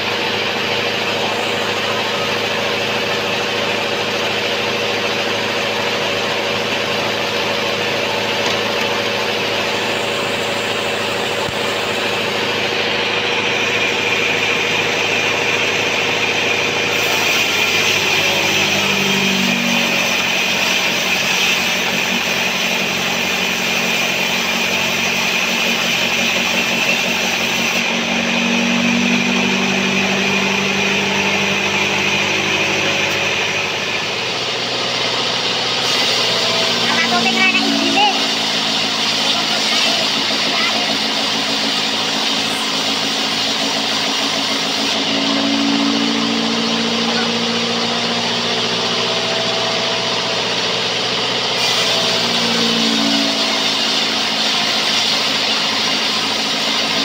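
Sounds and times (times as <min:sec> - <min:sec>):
machine drive hum: 0:00.0 - 0:54.9
band saw cutting log: 0:00.0 - 0:57.0.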